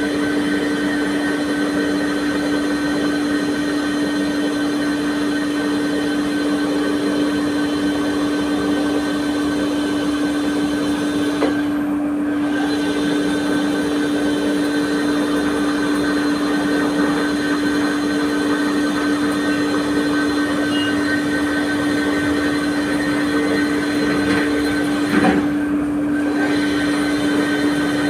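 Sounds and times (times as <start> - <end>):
machine hum with pitched tone: 0.0 - 28.0.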